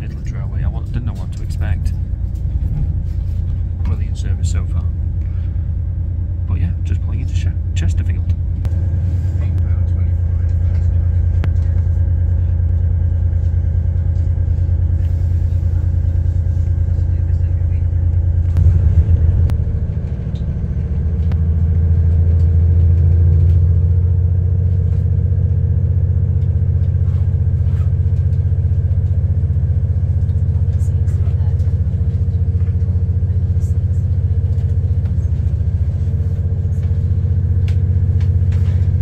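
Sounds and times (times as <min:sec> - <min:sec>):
train rumble from inside carriage: 0:00.0 - 0:39.0.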